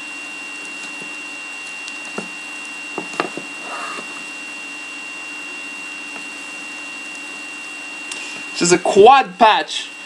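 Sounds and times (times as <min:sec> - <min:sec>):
electrical hum: 0:00.0 - 0:10.0
high-pitched whine: 0:00.0 - 0:10.0.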